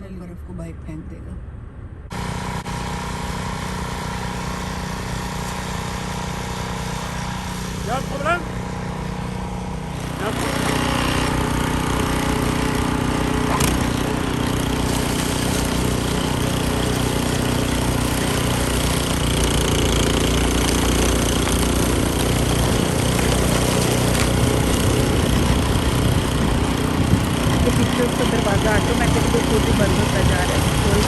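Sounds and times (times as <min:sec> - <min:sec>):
snow blower engine running: 0:02.1 - 0:31.0.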